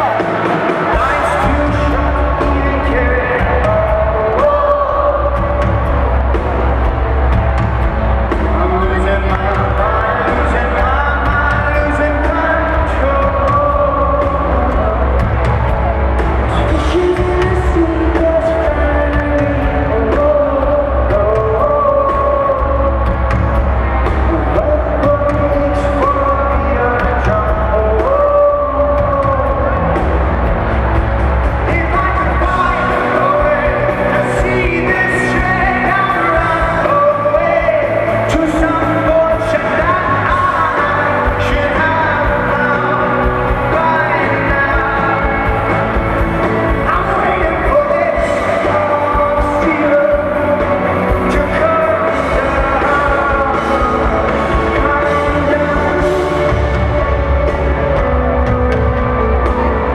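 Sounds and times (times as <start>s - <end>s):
lead singer vocals: 0.0s - 59.9s
rock band playing: 0.0s - 59.9s.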